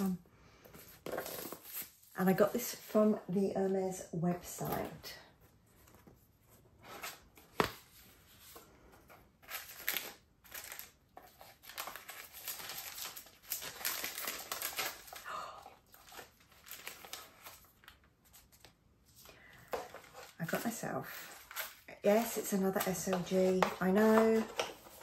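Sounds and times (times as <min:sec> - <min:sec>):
paper rustling and crinkling: 0:00.0 - 0:03.5, 0:04.4 - 0:25.0.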